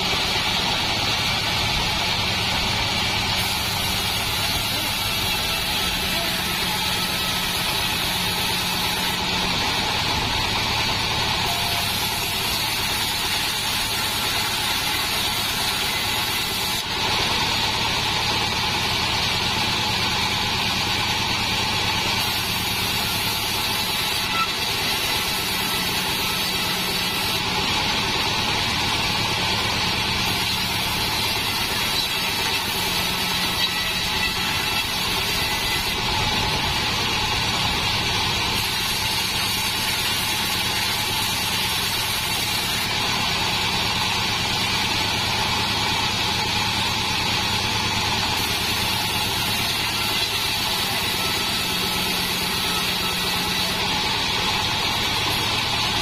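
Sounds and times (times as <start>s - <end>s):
bandsaw mill cutting wood: 0.0s - 56.0s.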